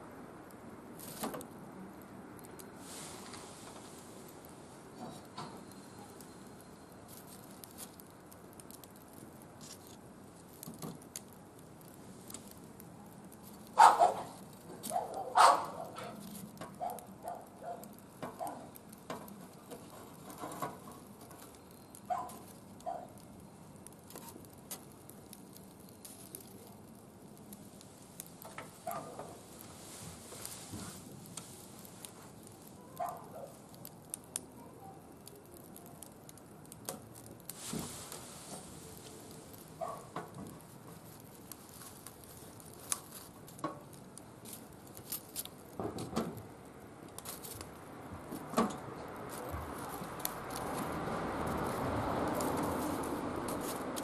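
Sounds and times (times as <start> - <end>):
wood fire crackling: 0.0 - 54.0
sharp wood cracks: 1.0 - 1.6, 7.1 - 29.4, 31.0 - 37.9, 39.0 - 54.0.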